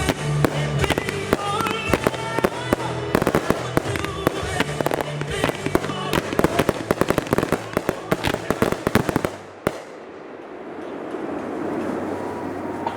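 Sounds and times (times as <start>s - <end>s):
fireworks cracks and bangs: 0.0s - 10.6s.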